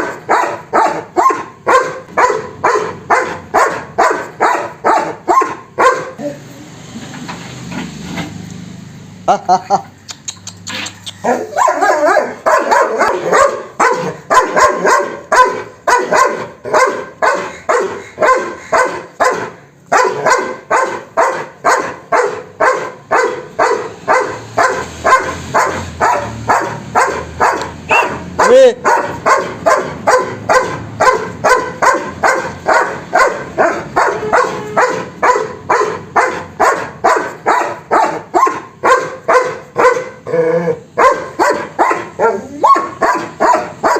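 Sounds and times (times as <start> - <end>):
dog barking: 0.0 - 6.4, 11.2 - 43.9.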